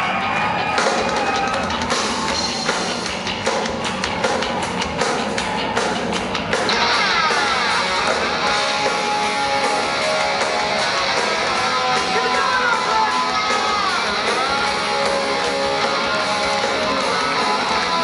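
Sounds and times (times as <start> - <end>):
distorted electric guitar: 0.0 - 18.0
drums: 0.0 - 18.0.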